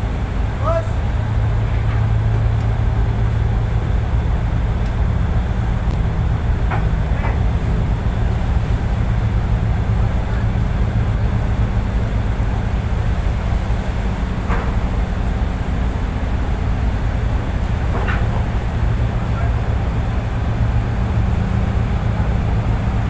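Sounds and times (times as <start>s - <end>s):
diesel engine droning under load: 0.0s - 23.0s.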